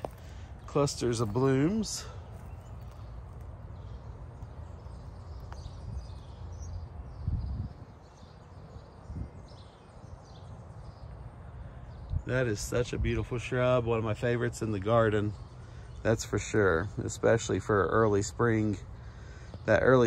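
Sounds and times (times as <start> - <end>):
faint birdsong chirping: 0.0 - 20.0.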